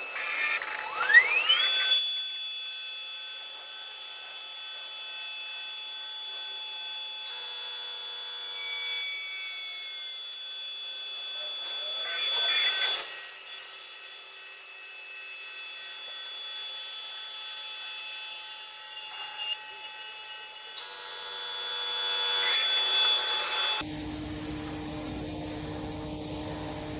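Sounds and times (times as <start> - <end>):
high-pitched spindle whine: 0.0 - 26.9.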